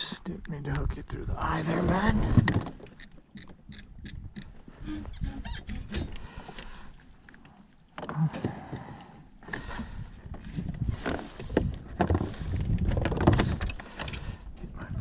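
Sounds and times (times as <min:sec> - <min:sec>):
rustling in a kayak: 0:01.3 - 0:15.0.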